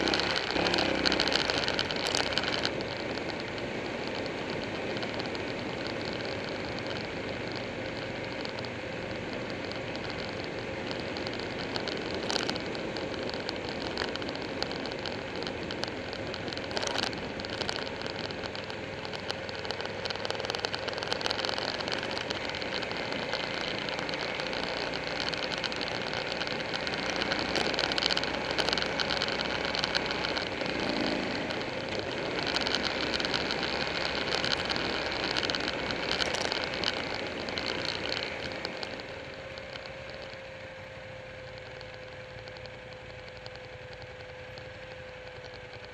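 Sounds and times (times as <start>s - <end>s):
motorcycle engine running: 0.0s - 45.9s
road noise: 0.0s - 45.9s.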